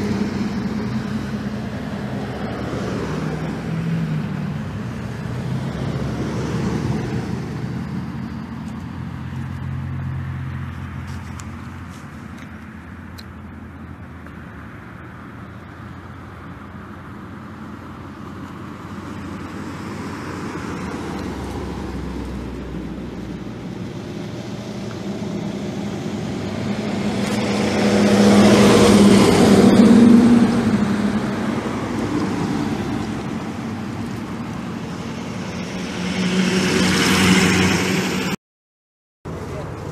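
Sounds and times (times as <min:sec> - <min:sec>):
vehicle passing close: 0:00.0 - 0:13.9, 0:14.8 - 0:38.4
cars passing: 0:00.0 - 0:38.4, 0:39.3 - 0:39.9.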